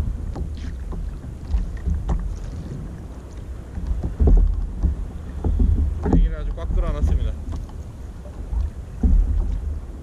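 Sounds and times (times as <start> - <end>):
water moving around kayak: 0.0 - 10.0
wind rumbling on microphone: 0.0 - 10.0
light clicks and knocks: 0.2 - 10.0.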